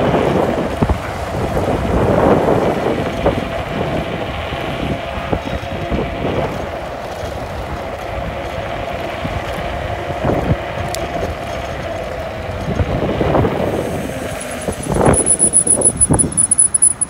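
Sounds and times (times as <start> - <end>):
scooter tyre noise: 0.0 - 17.0
steady motor whine: 0.0 - 17.0
wind rushing over microphone: 0.0 - 17.0.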